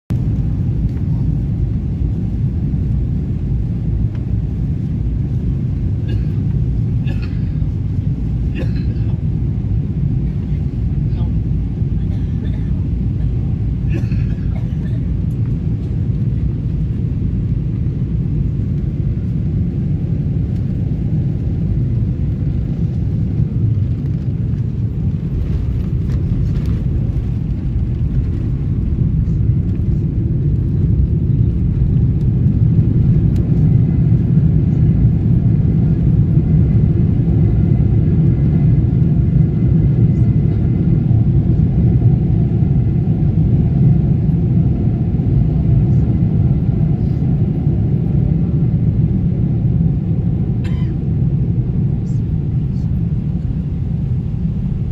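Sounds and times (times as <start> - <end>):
moving vehicle rumble: 0.1 - 54.9.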